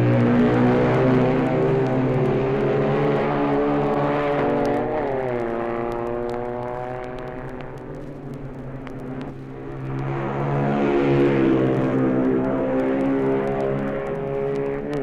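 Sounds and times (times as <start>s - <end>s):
racing motorcycle passing at high revs: 0.0s - 15.0s
vinyl record crackle: 0.0s - 15.0s.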